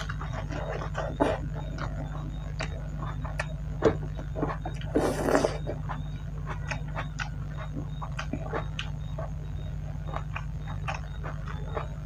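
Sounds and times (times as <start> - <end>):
steady low hum: 0.0 - 12.0
wet chewing and lip smacks: 0.0 - 12.0.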